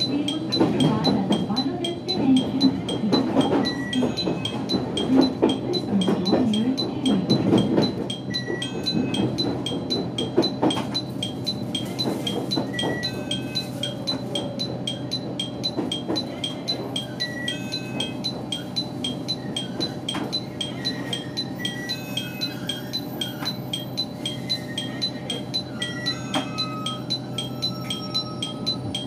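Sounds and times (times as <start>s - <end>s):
electric train running: 0.0s - 29.0s.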